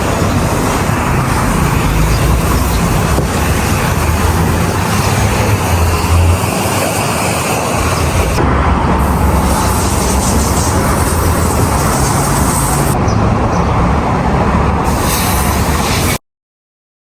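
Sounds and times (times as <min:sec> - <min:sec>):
car engine and road rumble: 0:00.0 - 0:16.2.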